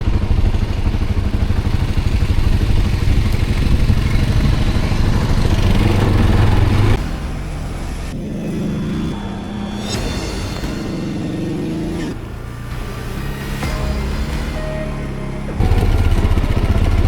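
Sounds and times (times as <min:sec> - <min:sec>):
atv engine pulsing: 0:00.0 - 0:17.0.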